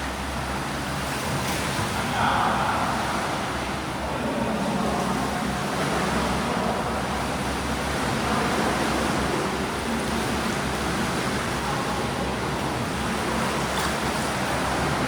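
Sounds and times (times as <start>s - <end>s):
pool water churned by swimmers: 0.0s - 15.0s.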